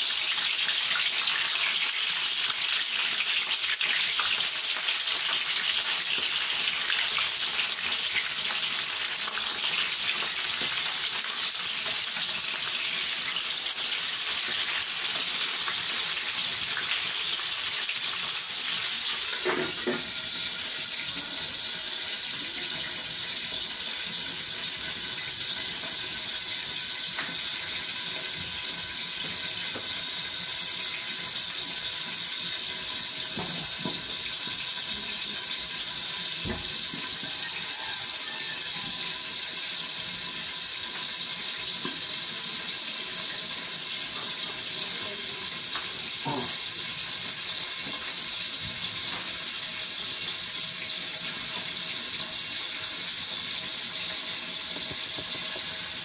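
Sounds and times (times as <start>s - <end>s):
gas stove hissing: 0.0s - 56.0s.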